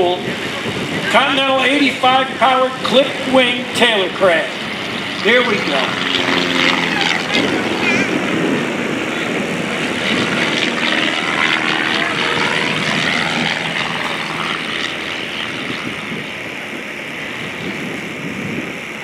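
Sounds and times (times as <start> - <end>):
airplane engine and propeller: 0.0 - 19.0.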